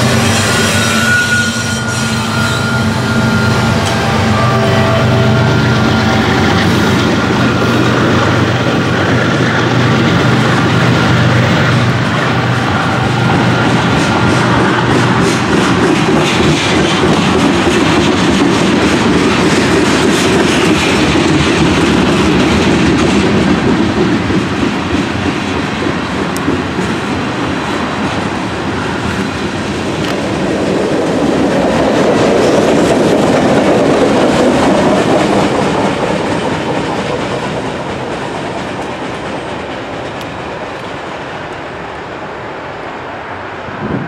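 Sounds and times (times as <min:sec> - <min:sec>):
freight train cars rolling past: 0:00.0 - 0:44.0.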